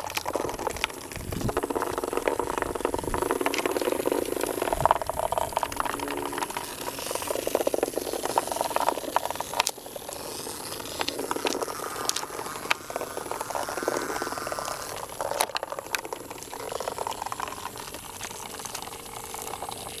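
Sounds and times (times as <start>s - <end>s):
vibrating robot bugs rattling: 0.0s - 20.0s.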